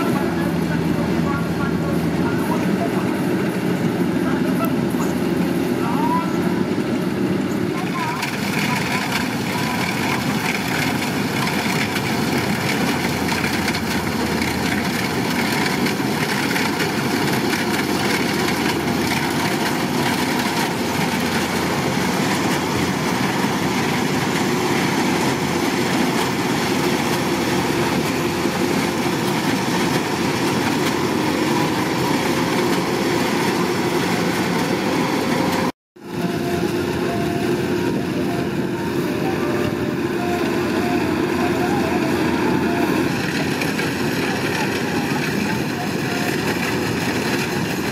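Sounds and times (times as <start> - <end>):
clatter of threshing works: 0.0 - 47.9
combine harvester diesel engine: 0.0 - 47.9.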